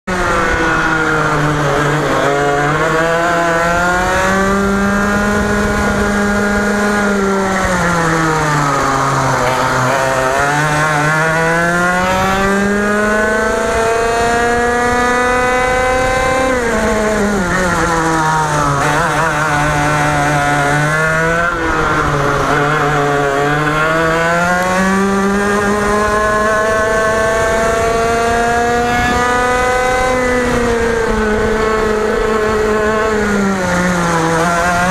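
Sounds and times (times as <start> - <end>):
kart engine at racing speed: 0.0 - 34.9.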